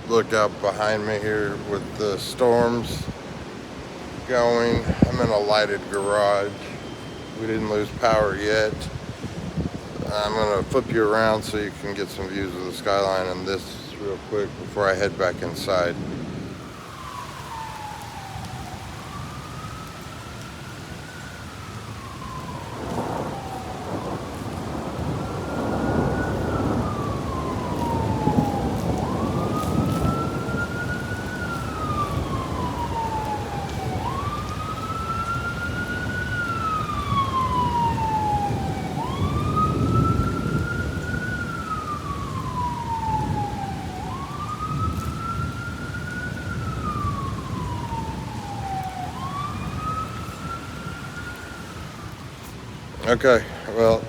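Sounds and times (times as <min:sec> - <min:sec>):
rain: 0:00.0 - 0:54.0
thunder rumbling: 0:00.0 - 0:54.0
siren wailing: 0:03.8 - 0:10.6, 0:16.4 - 0:54.0.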